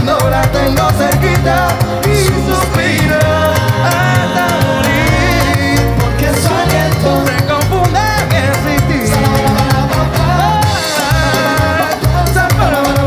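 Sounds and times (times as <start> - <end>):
congas: 0.0 - 13.0
electric bass line: 0.0 - 13.0
live band playing funk: 0.0 - 13.0.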